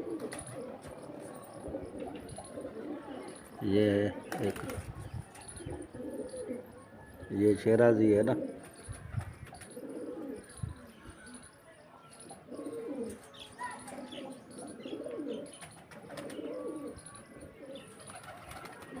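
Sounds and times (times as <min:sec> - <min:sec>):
pigeons cooing: 0:00.0 - 0:07.3, 0:07.9 - 0:08.8, 0:09.4 - 0:11.4, 0:12.2 - 0:19.0.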